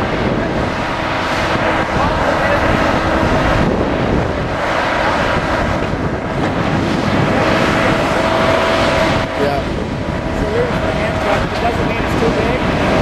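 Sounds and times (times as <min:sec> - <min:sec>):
machine engine and hydraulics: 0:00.0 - 0:13.0.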